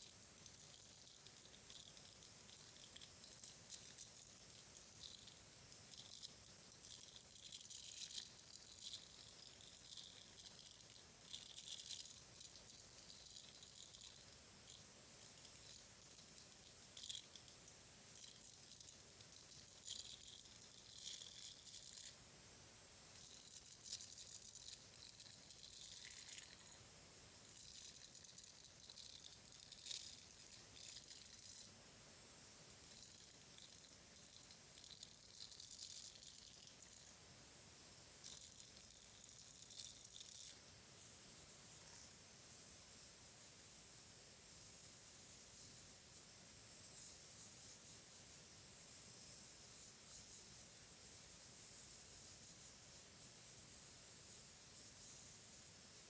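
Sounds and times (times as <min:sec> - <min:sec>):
soft crackling and rustling: 0:00.0 - 0:56.0.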